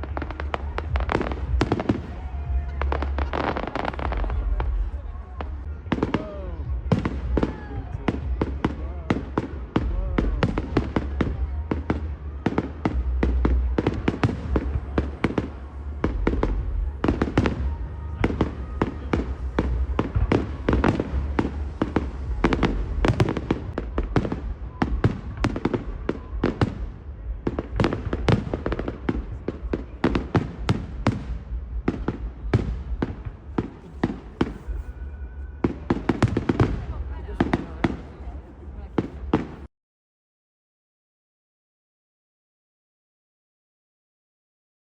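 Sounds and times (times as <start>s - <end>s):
fireworks banging and crackling: 0.0s - 39.7s.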